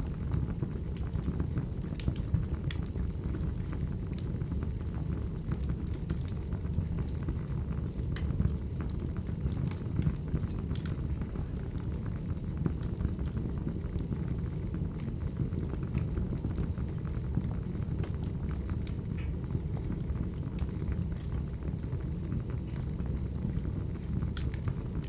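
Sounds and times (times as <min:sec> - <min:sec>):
burning logs rumbling: 0:00.0 - 0:25.0
fire pops and snaps: 0:00.1 - 0:14.1, 0:14.9 - 0:25.0.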